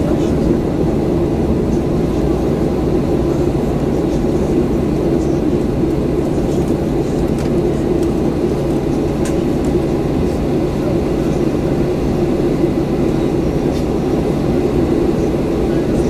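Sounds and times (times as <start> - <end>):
low airplane cabin rumble: 0.0 - 16.0.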